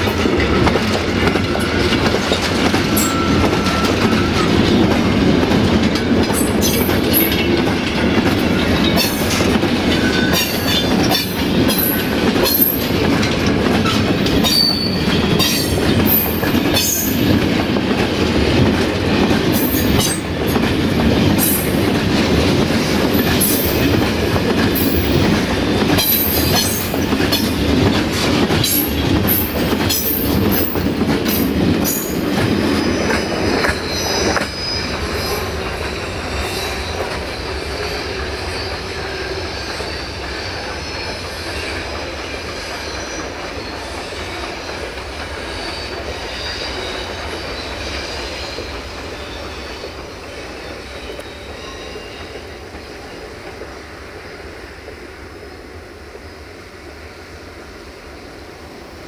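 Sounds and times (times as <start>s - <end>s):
train wheels clattering over rail joints: 0.0s - 53.9s
train wheel squeal: 0.0s - 55.6s.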